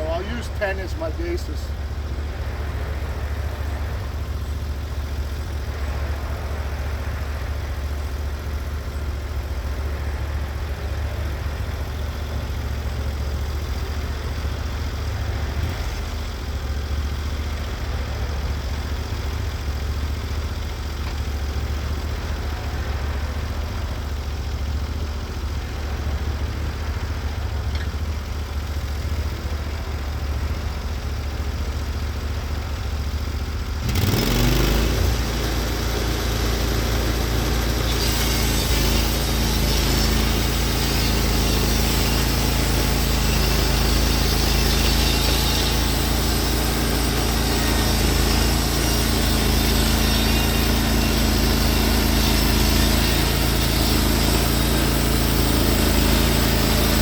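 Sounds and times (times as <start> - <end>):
sawmill engine humming: 0.0 - 57.0.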